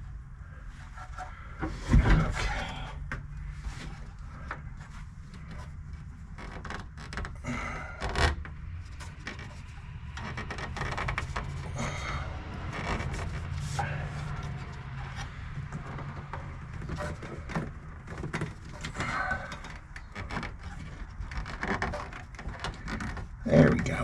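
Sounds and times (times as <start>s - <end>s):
steady low hum: 0.0s - 24.0s
tubing rubbing and scraping: 3.5s - 24.0s.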